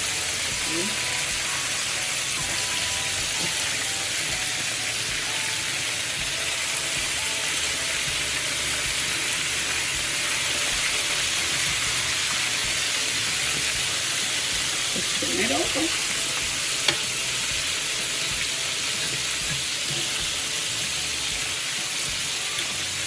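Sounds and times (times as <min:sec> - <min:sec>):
chicken frying in hot oil: 0:00.0 - 0:23.0.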